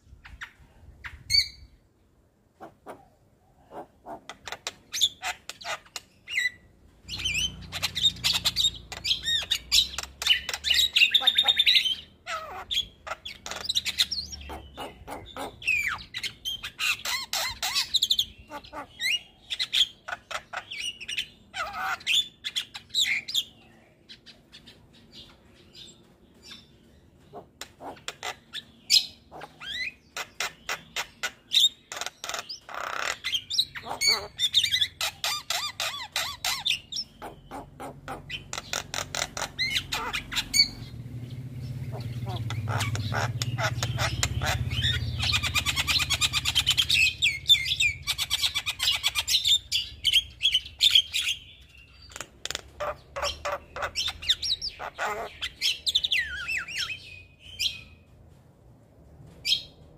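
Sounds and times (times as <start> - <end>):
myna bird singing: 2.6 - 58.2, 59.3 - 59.9.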